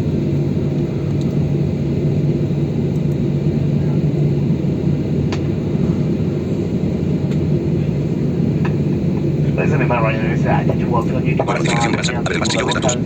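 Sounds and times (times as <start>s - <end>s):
jet engines humming in cabin: 0.0s - 13.0s.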